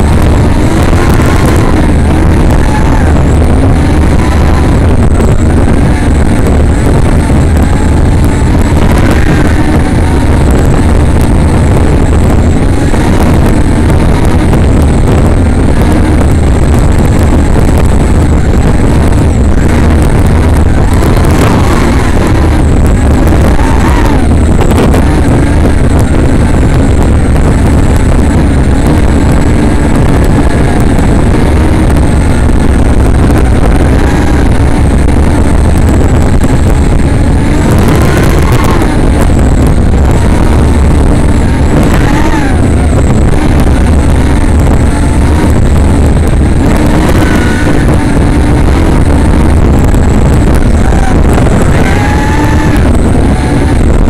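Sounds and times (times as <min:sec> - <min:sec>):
drone motors whining: 0:00.0 - 0:54.0
heavy rush of noise: 0:00.0 - 0:54.0.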